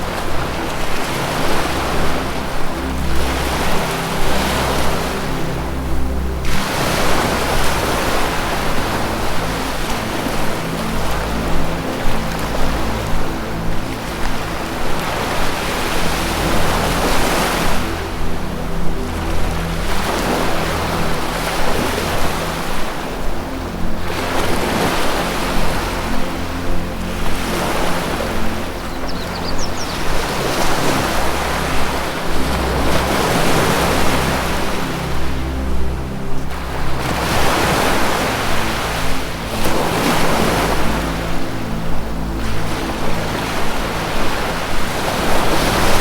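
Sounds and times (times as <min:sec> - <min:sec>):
ocean waves washing in: 0:00.0 - 0:46.0
soft ambient music: 0:00.0 - 0:46.0.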